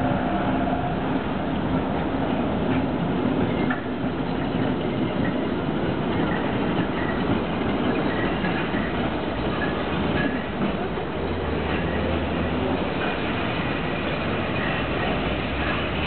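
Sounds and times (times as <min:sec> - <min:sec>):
tram wheels rumbling on rails: 0:00.0 - 0:16.0.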